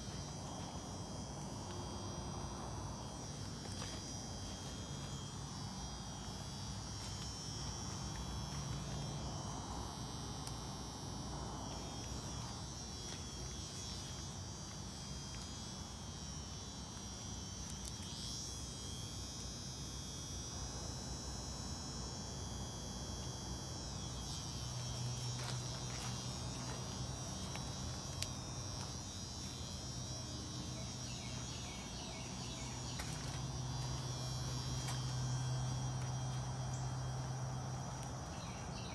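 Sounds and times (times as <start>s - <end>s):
crickets chirping: 0.0s - 38.9s
low steady hum: 0.0s - 38.9s.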